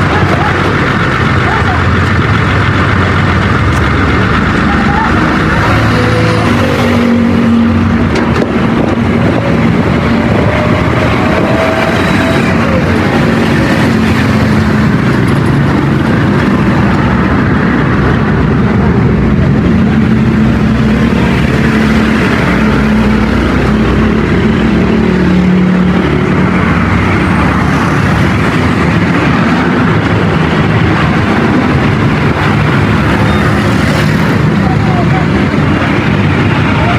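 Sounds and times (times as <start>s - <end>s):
road noise: 0.0s - 36.9s
vehicle engine running: 0.0s - 36.9s.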